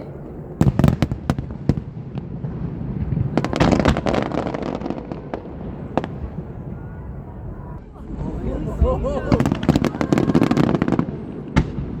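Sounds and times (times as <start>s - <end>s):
fireworks bangs: 0.0s - 12.0s
crackling firework bursts: 0.4s - 6.8s, 7.9s - 12.0s.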